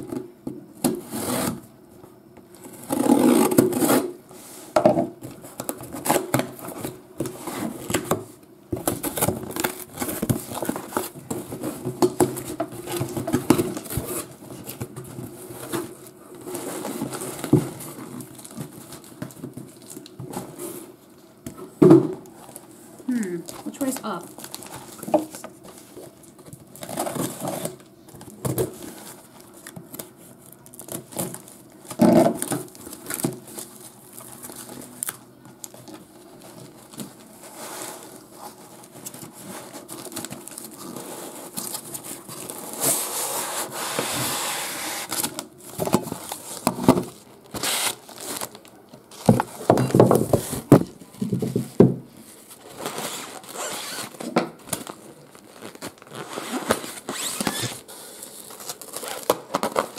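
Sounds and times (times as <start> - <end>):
packing paper rustling and tearing: 8.8 - 20.9, 22.4 - 59.9.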